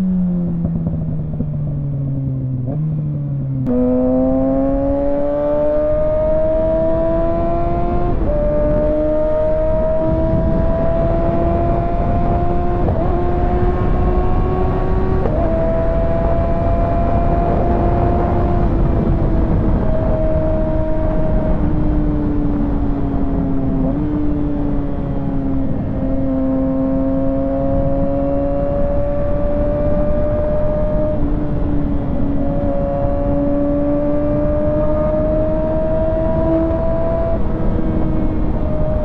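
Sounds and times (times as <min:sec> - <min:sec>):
motorcycle engine revving: 0:00.0 - 0:39.0
wind and road rush: 0:00.0 - 0:39.0.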